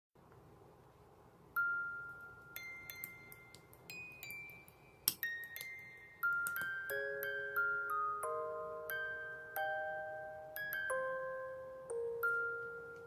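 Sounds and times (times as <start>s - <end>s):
glockenspiel-like bell melody: 1.6s - 13.0s.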